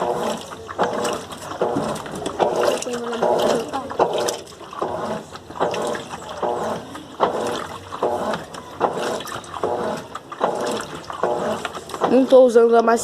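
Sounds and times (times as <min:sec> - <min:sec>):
washing machine motor humming: 0:00.0 - 0:13.0
water sloshing: 0:00.0 - 0:13.0.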